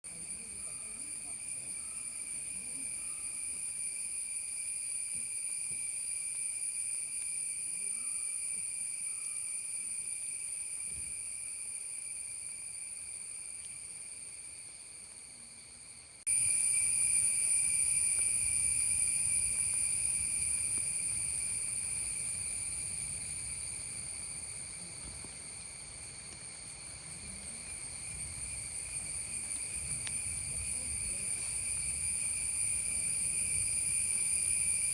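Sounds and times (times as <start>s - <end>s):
high-pitched insect drone: 0.1s - 15.2s, 16.2s - 34.9s.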